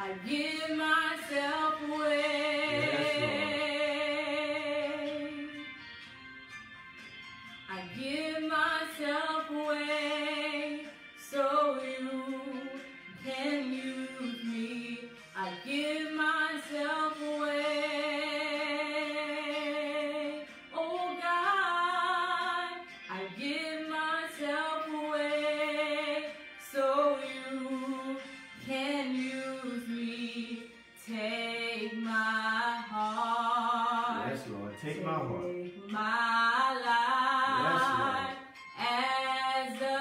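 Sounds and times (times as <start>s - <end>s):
woman singing gospel song: 0.0s - 5.8s, 7.7s - 34.2s, 35.4s - 40.0s.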